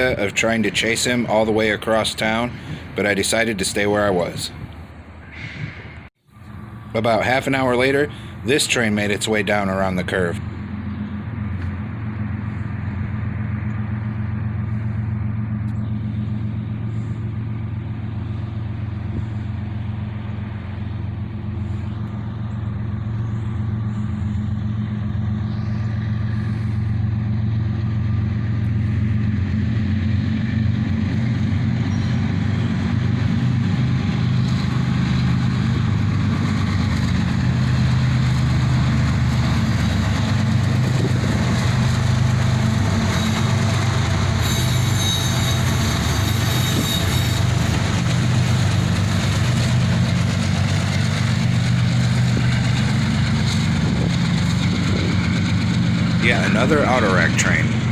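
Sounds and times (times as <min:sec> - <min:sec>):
diesel locomotive engines droning: 0:00.0 - 0:57.9.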